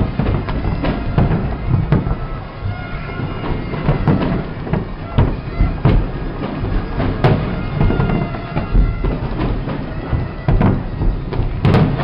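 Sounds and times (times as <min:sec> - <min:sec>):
continuous noisy din: 0:00.0 - 0:12.0
faint droning tones: 0:00.0 - 0:12.0
fireworks bangs: 0:00.0 - 0:12.0.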